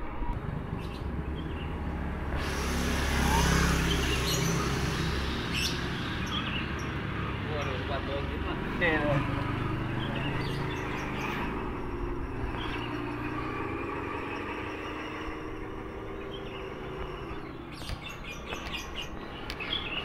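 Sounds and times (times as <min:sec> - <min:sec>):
birds chirping: 0:00.3 - 0:20.0.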